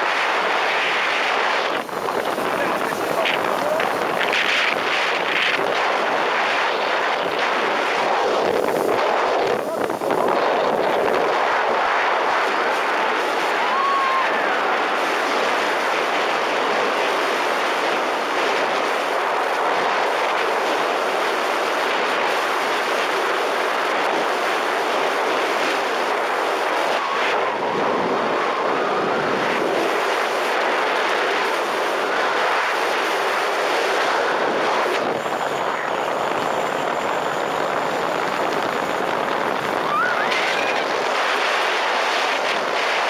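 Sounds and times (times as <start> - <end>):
speedboat running at speed: 0.0 - 43.0.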